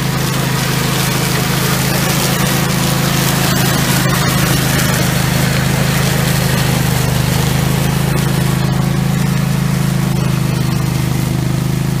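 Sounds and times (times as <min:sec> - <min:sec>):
ride-on mower engine running: 0:00.0 - 0:12.0.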